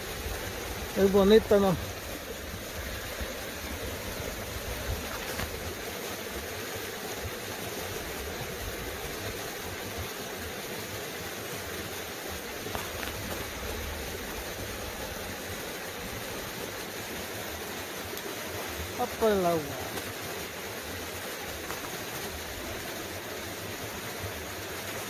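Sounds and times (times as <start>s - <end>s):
creek flowing water: 0.0s - 25.0s.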